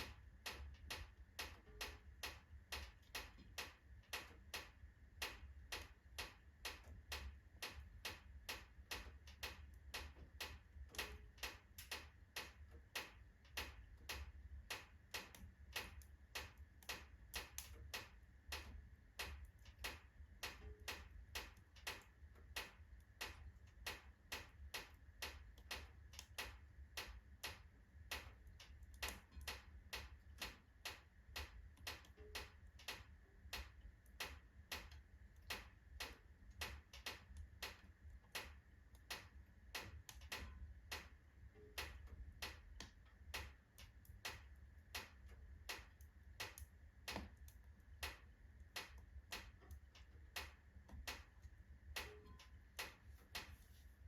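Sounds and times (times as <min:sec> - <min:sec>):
logs crackling in a fireplace: 0:00.0 - 0:54.0.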